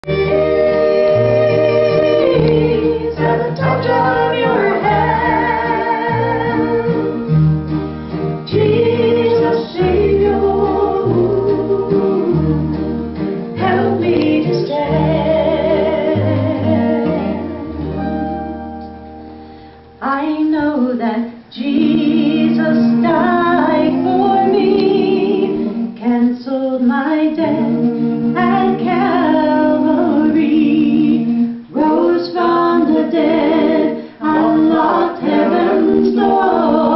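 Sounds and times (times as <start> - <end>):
group singing: 0.0 - 7.3, 8.4 - 18.4, 20.5 - 36.9
guitar: 0.0 - 36.9.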